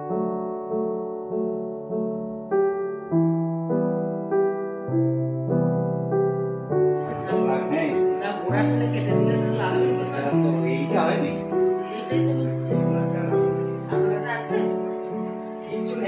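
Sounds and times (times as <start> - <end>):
slow keyboard music: 0.0 - 16.0.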